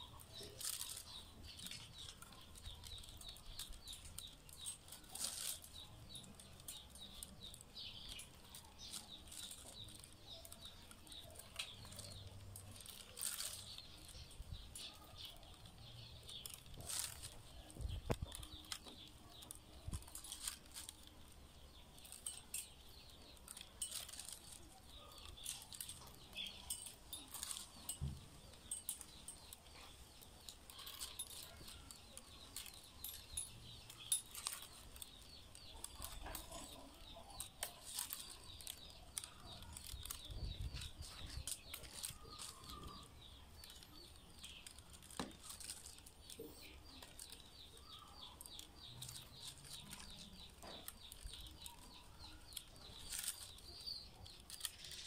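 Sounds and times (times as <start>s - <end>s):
faint high chirping: 0.0s - 55.0s
rattan strands clicking and creaking: 0.0s - 55.0s.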